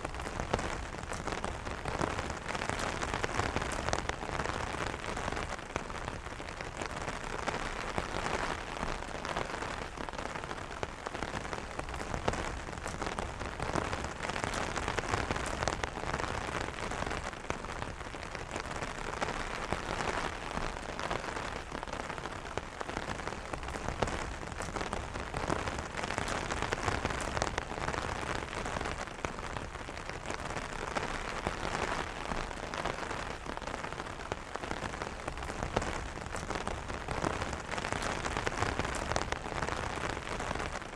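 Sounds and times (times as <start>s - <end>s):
rain drumming on an umbrella: 0.0s - 40.9s.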